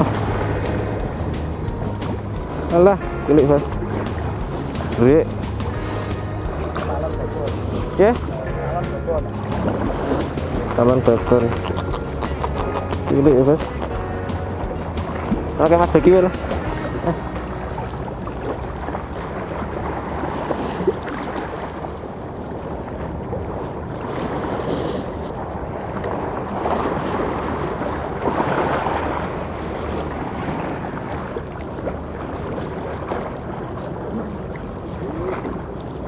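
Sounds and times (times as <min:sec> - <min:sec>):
choppy sea water lapping: 0:00.0 - 0:36.0.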